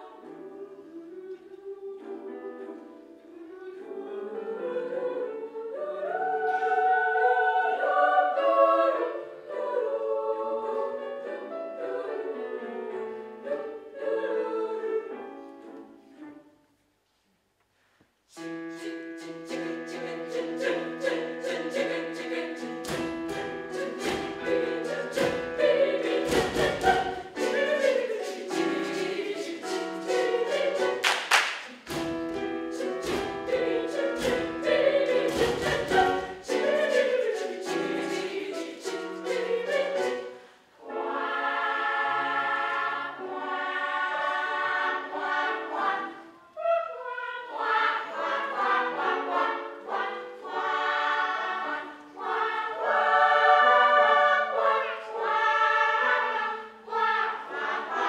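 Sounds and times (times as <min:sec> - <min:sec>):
children's choir singing: 0:00.0 - 0:16.2, 0:18.3 - 0:58.0.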